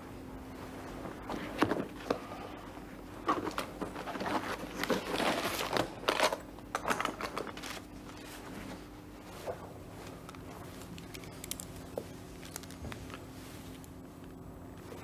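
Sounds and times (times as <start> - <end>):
faint hum: 0.0 - 15.0
clothing rustling and crinkling: 0.5 - 15.0.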